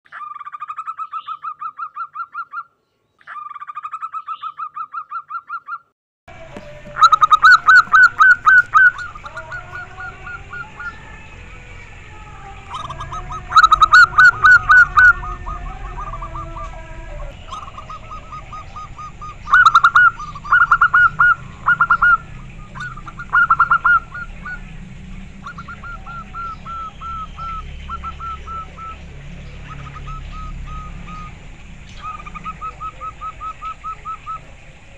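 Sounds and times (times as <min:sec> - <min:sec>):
dove cooing: 0:06.3 - 0:34.9
low background rumble: 0:06.3 - 0:34.9.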